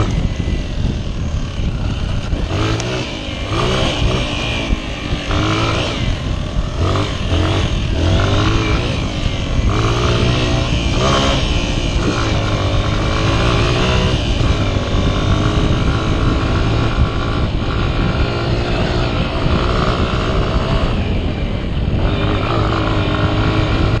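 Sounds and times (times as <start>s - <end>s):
motorcycle engine revving: 0.0s - 24.0s
wind and ground noise: 0.0s - 24.0s.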